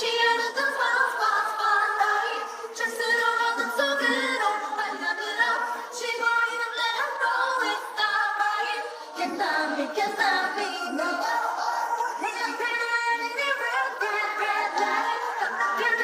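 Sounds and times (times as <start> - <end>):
group singing unaccompanied: 0.0 - 16.0.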